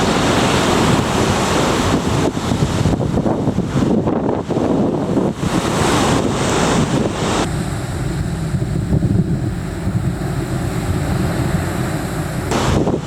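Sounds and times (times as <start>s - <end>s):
sea water rushing along hull: 0.0s - 13.0s
wind buffeting microphone: 0.0s - 13.0s.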